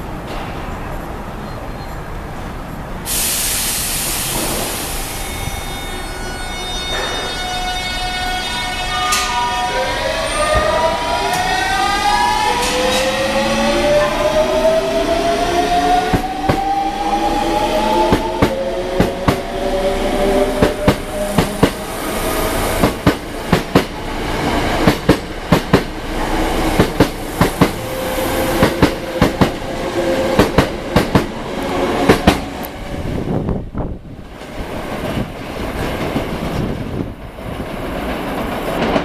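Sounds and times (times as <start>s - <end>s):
electric train inverter whining: 4.6s - 37.2s.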